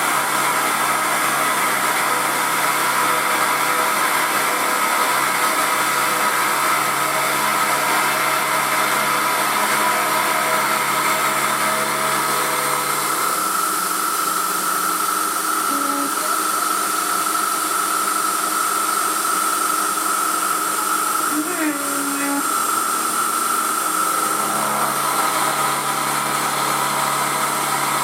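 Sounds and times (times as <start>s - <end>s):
milling machine whirring: 0.0s - 28.0s.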